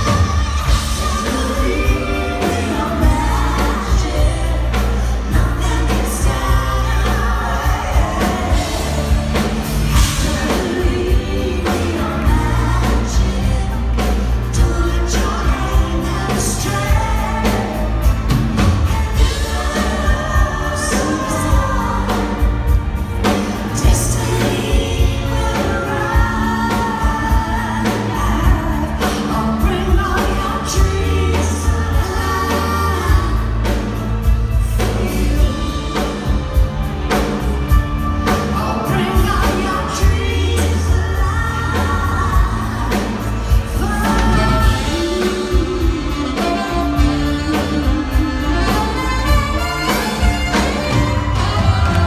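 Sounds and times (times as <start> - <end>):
backing vocalists: 0.0 - 52.0
live pop band playing: 0.0 - 52.0
woman singing: 0.0 - 52.0.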